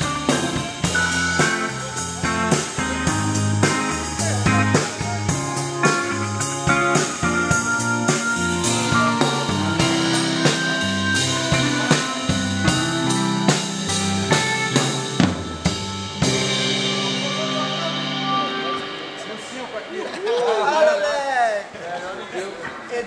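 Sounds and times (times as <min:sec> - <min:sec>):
bass guitar: 0:00.0 - 0:20.4
synthesizer chords: 0:00.0 - 0:20.5
electric guitars: 0:00.0 - 0:20.6
drum kit beat: 0:00.0 - 0:21.0.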